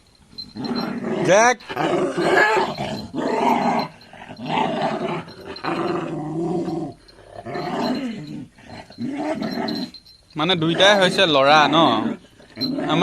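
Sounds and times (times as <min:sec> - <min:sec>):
dog growling: 0:00.4 - 0:10.0, 0:10.6 - 0:13.0.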